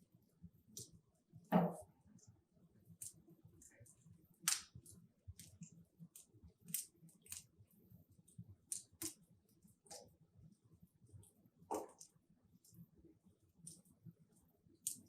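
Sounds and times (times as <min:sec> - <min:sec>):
wood logs crackling in fireplace: 0:00.0 - 0:15.0.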